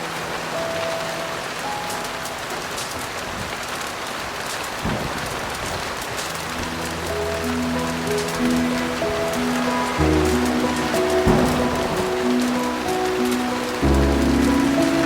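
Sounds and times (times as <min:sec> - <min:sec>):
faint crackles: 0:00.0 - 0:15.0
heavy rain: 0:00.0 - 0:15.0
slow piano notes: 0:00.0 - 0:15.0.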